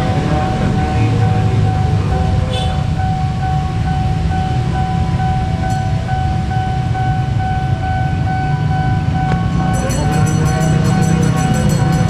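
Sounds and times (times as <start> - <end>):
railroad crossing alarm ringing: 0.0 - 12.0
train rumbling past: 0.0 - 12.0.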